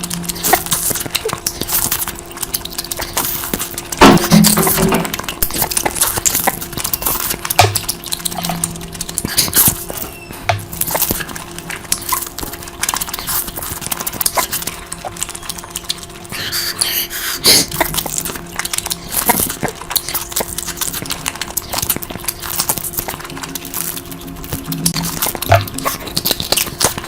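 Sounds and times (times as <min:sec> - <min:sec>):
faint steady hum: 0:00.0 - 0:27.0
wet chewing and lip smacks: 0:00.0 - 0:27.0.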